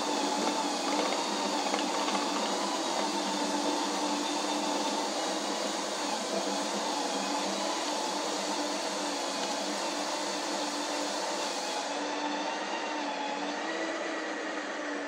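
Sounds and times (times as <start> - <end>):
ice cream maker motor whirring: 0.0 - 15.0.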